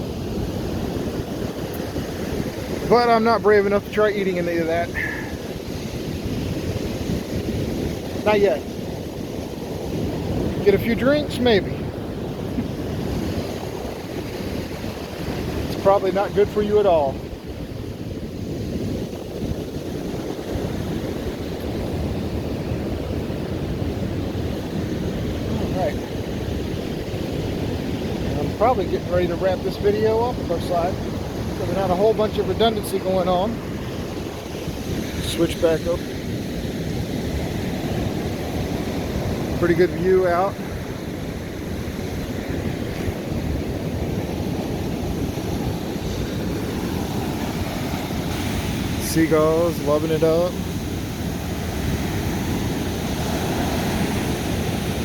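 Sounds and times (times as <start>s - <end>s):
surf on beach: 0.0s - 55.0s
wind buffeting microphone: 0.0s - 55.0s.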